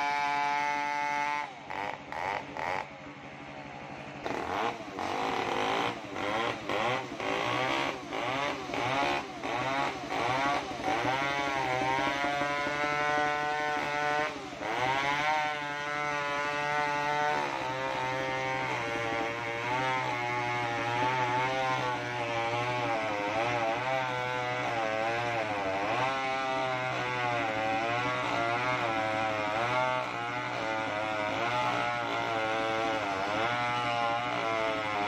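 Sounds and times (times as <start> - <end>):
chainsaw cutting through log: 0.0 - 3.2, 4.2 - 35.0.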